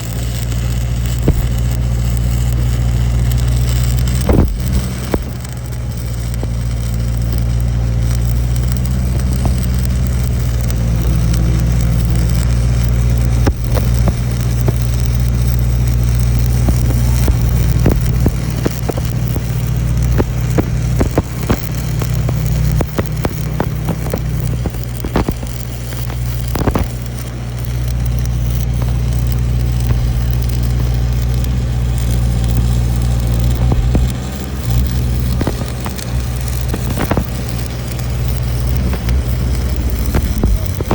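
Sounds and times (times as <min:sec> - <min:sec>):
welding crackles and clicks: 0:00.0 - 0:40.9
welding machine hum: 0:00.0 - 0:40.9.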